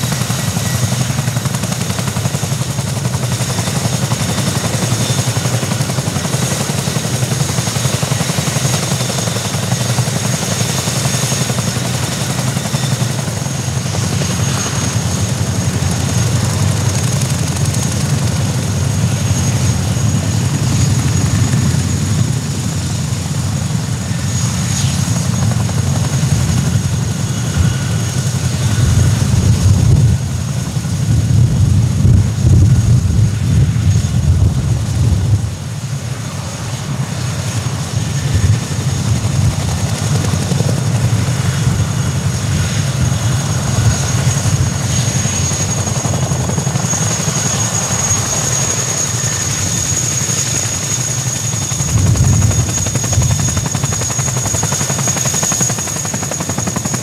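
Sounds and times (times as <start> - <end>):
helicopter rotor beat: 0.0 - 57.0
turbine engine whine: 0.0 - 57.0.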